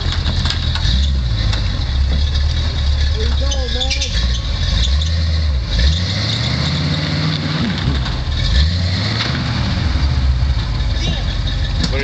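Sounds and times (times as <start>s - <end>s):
pickup truck engine revving: 0.0s - 12.0s.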